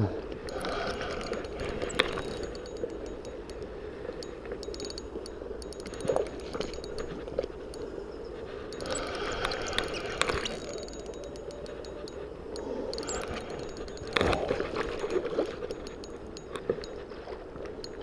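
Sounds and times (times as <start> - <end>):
fishing reel gears ticking: 0.3 - 18.0.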